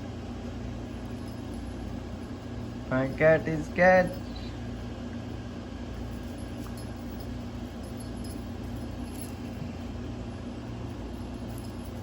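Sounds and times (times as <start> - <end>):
low room hum: 0.0 - 12.0
faint light clinks: 0.9 - 4.7, 5.9 - 12.0.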